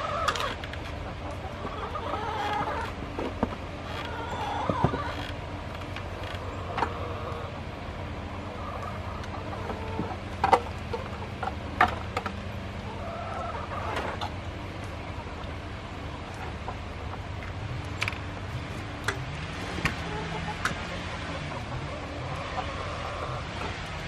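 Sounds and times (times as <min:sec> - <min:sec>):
hens clucking: 0:00.0 - 0:24.0
steady low hum: 0:00.0 - 0:24.0.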